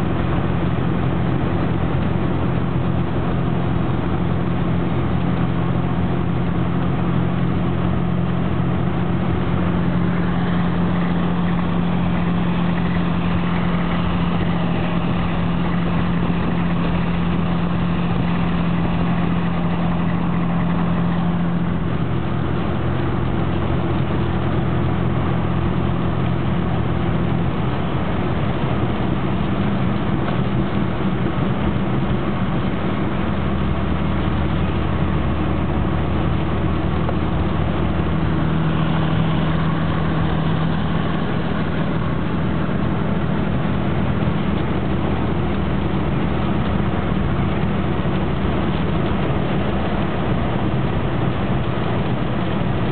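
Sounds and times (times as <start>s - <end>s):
car engine hum: 0.0s - 52.9s
road noise hiss: 0.0s - 52.9s.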